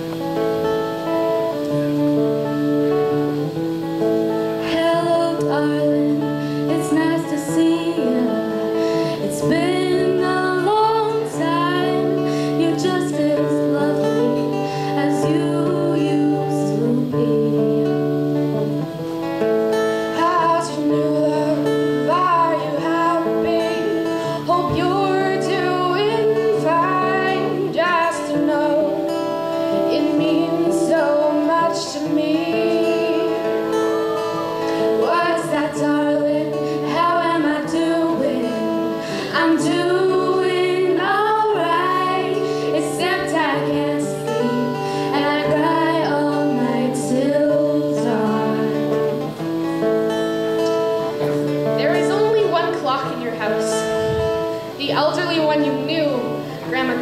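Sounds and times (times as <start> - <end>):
strummed acoustic guitar: 0.0 - 57.0
woman singing: 4.4 - 18.8, 19.9 - 49.4, 51.6 - 57.0.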